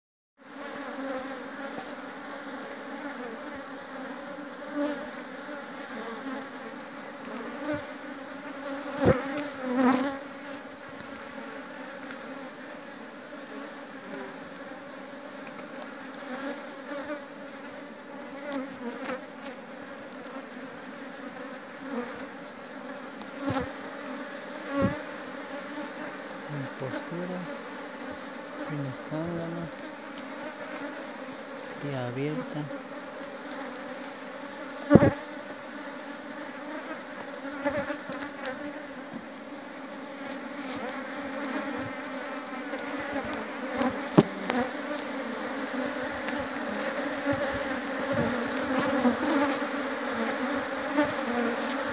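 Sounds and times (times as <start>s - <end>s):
honey bees humming: 0.4s - 51.9s.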